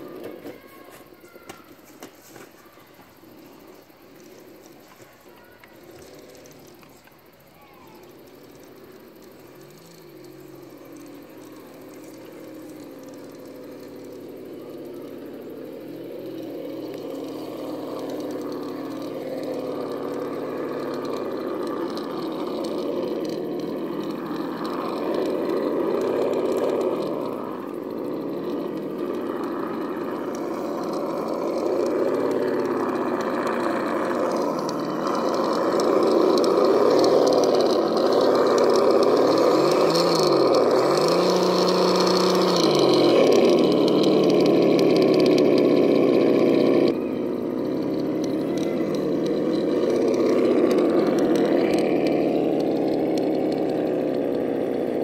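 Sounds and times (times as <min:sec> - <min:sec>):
toy car electric motor whining: 0:00.0 - 0:55.0.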